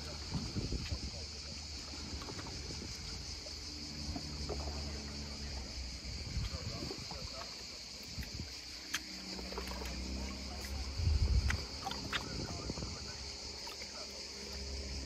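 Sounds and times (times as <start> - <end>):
low engine drone: 0.0 - 7.5, 8.3 - 15.0
cicadas buzzing: 0.0 - 15.0.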